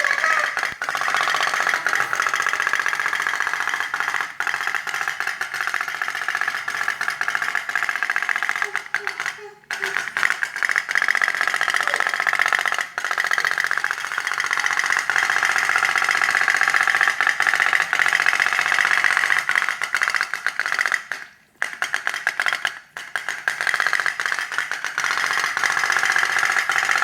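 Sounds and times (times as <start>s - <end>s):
toy steam engine ticking pops: 0.0s - 27.0s.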